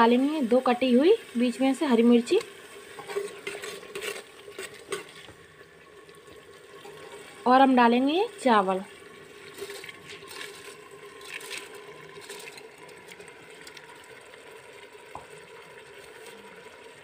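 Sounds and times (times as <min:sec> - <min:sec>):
light sizzle: 0:00.0 - 0:17.0.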